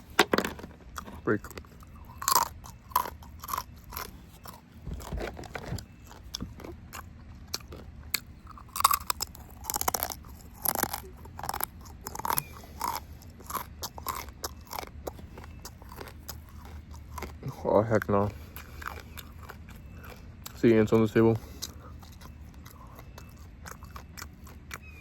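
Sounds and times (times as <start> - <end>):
chewing and biting chicken: 0.8 - 25.0.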